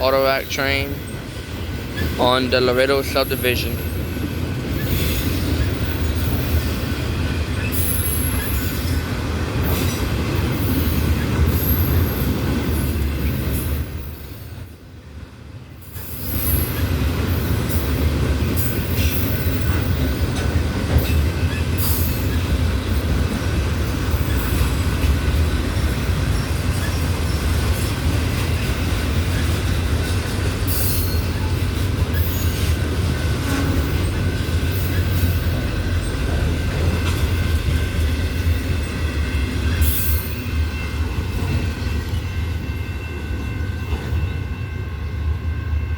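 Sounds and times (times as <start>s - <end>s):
freight train rumble: 0.0s - 45.9s.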